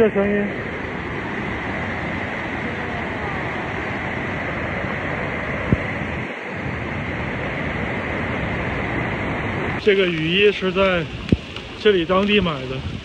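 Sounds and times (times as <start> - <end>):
heavy rain: 0.0 - 13.0
waterfall roaring: 0.0 - 13.0.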